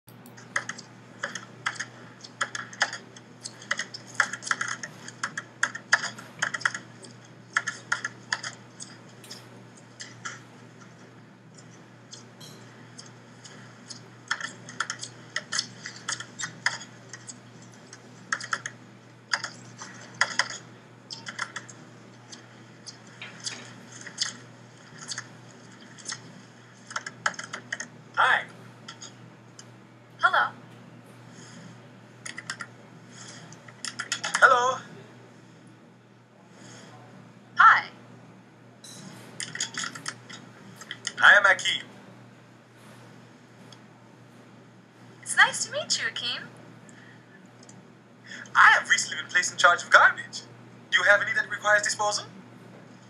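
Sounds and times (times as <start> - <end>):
steady low hum: 0.1 - 53.0.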